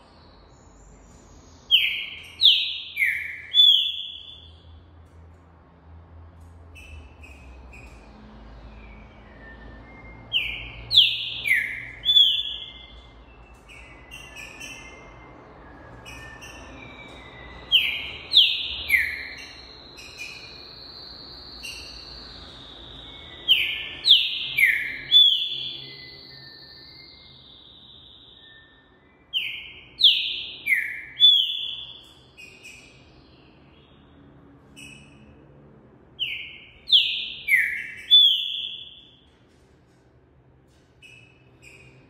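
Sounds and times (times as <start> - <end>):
bird whistling song: 0.0 - 4.8, 6.7 - 35.3, 36.2 - 39.4, 41.0 - 42.0.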